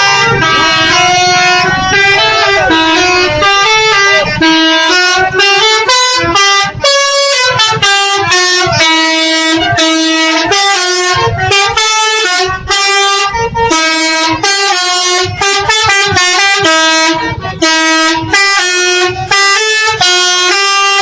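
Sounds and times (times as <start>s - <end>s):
multi-tone musical air horn: 0.0s - 21.0s.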